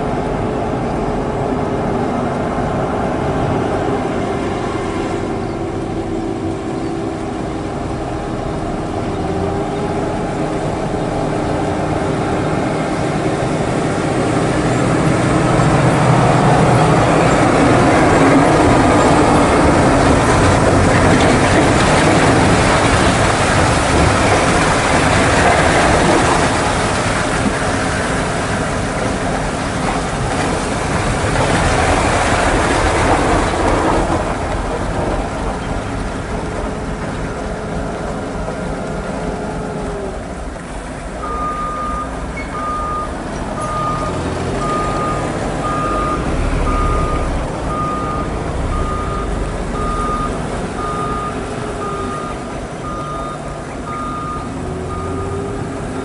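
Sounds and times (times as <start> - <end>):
heavy diesel truck engines labouring: 0.0 - 56.0
loaded trailers rumbling and rattling: 0.0 - 56.0.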